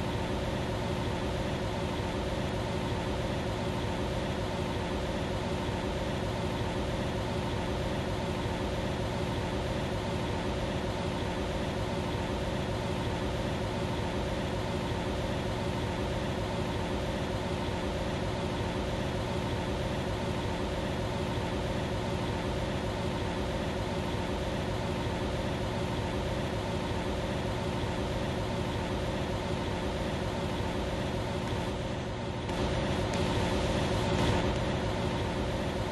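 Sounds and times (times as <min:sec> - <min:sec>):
furnace hum: 0:00.0 - 0:35.9.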